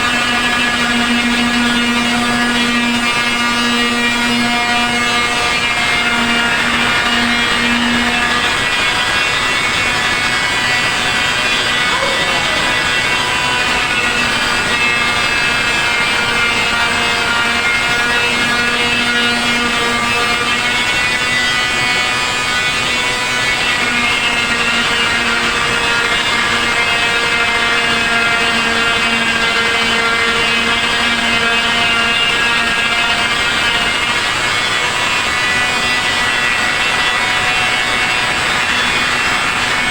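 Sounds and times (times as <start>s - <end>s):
power sander running: 0.0s - 39.9s.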